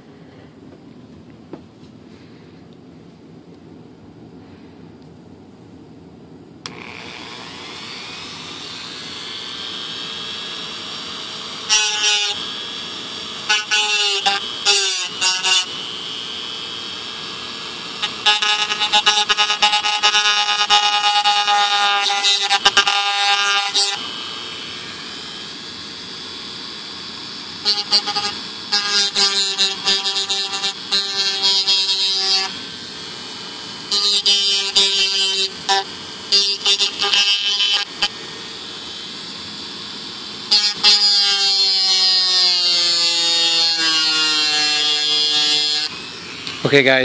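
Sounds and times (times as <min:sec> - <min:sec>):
rotary tool whining: 0:06.6 - 0:47.0.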